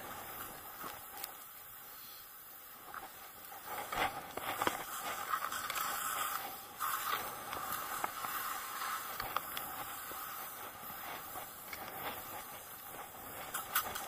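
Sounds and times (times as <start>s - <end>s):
skis scraping over snow: 0.0s - 14.0s.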